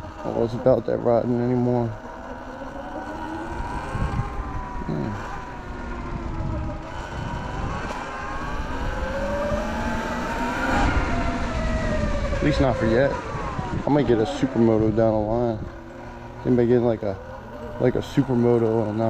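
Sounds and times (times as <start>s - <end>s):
electric motor whining: 0.0s - 19.0s
wind rumble on microphone: 3.0s - 19.0s.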